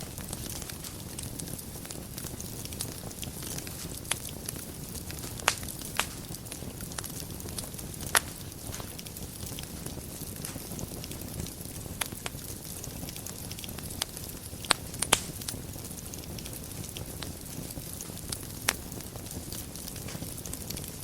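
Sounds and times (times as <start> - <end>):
fire flames rushing: 0.0 - 21.0
wood fire crackling and popping: 0.0 - 21.0.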